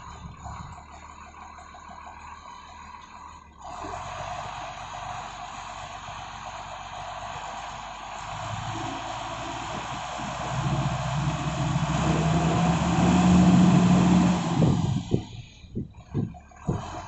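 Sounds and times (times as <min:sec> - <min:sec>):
forklift diesel engine revving: 0:00.0 - 0:17.0.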